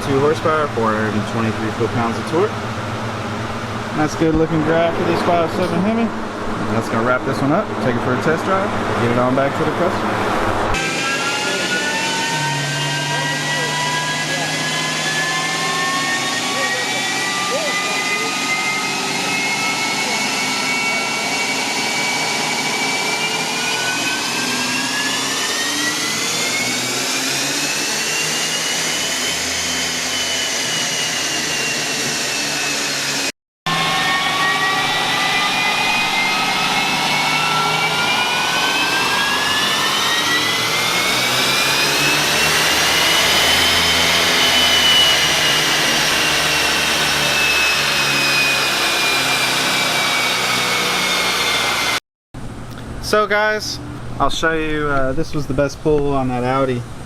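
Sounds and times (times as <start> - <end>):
car engine revving on dyno: 0.0 - 52.0
whine over engine: 0.0 - 57.0.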